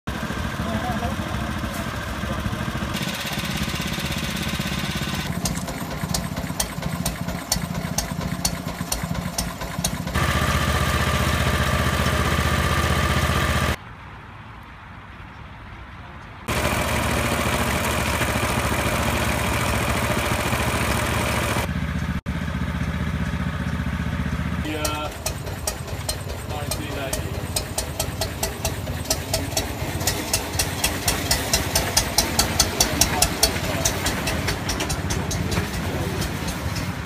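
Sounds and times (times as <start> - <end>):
small petrol engines idling and running: 0.0 - 13.8, 16.4 - 37.0.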